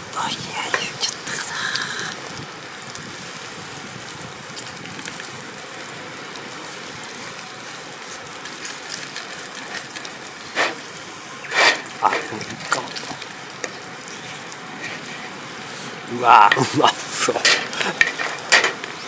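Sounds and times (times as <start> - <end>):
steak sizzling in a pan: 0.6 - 19.0.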